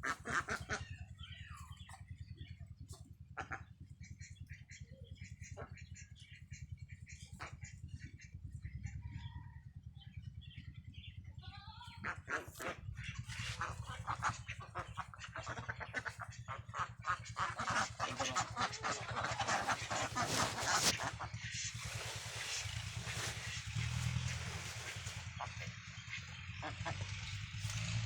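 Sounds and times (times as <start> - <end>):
flock of ducks quacking: 0.0 - 2.1, 2.9 - 9.4, 11.9 - 28.0
steady low hum: 0.0 - 28.0.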